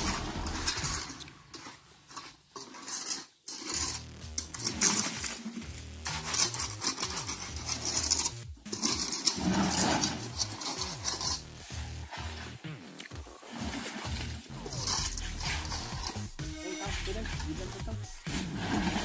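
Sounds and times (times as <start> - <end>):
metal tools scraping mortar: 0.0 - 12.7, 13.6 - 19.0.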